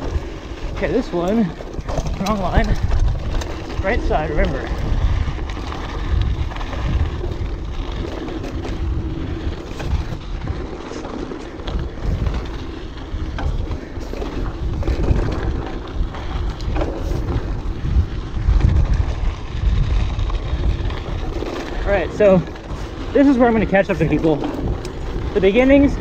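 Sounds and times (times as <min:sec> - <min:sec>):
bike knocking and rattling: 0:00.0 - 0:26.0
wind buffeting microphone: 0:00.0 - 0:26.0.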